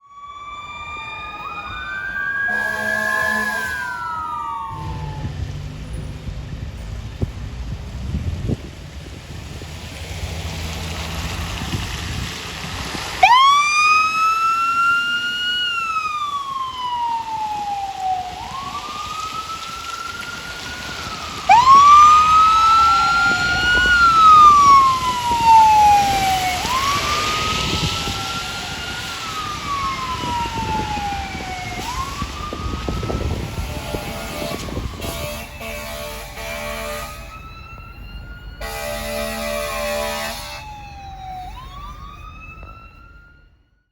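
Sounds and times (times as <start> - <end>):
emergency vehicle sirens wailing: 0.0 - 43.9.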